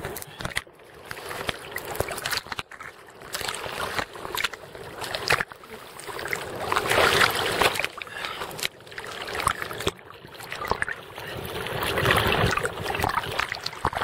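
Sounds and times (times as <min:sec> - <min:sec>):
water splashing around surfboard: 0:00.0 - 0:14.0.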